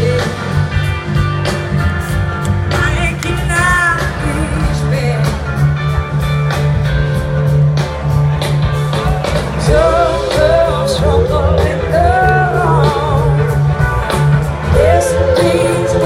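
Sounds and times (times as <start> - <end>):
blues-rock band playing: 0.0 - 16.0
wavering lead guitar melody: 0.0 - 16.0.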